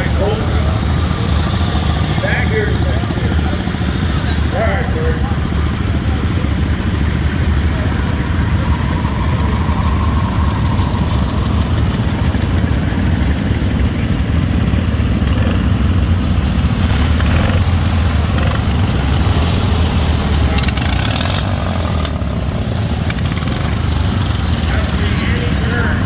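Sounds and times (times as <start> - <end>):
garden tractor engine idling: 0.0 - 26.0.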